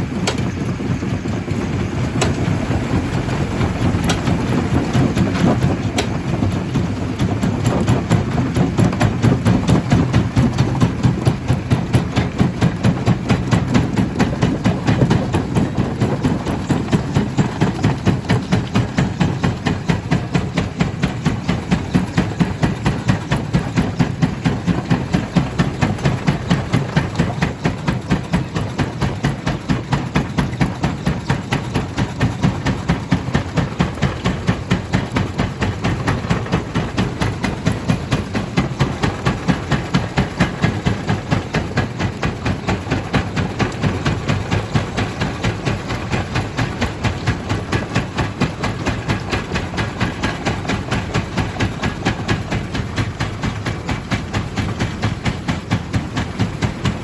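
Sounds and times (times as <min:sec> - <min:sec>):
rhythmic mechanical knocking: 0:00.0 - 0:57.0
stone crusher machine running: 0:00.0 - 0:57.0.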